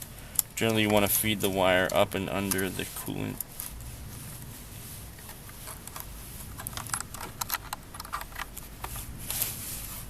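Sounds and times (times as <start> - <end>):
light clicks and scrapes of cable: 0.3 - 10.0.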